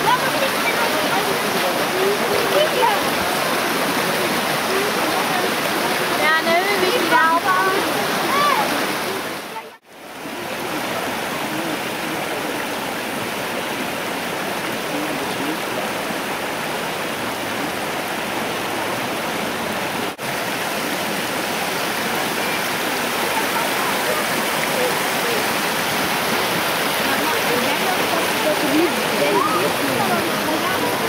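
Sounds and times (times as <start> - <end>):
stream splashing over rocks: 0.0 - 31.0.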